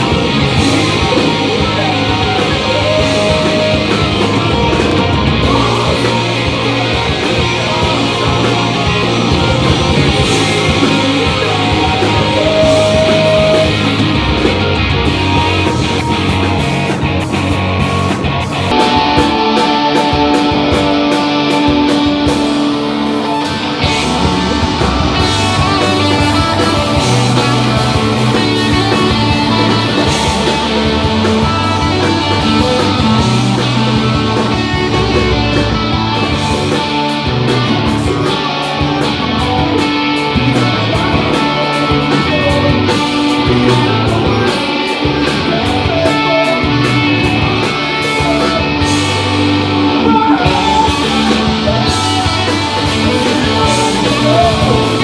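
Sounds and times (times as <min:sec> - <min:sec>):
bass guitar: 0:00.0 - 0:55.0
electric guitars: 0:00.0 - 0:55.0.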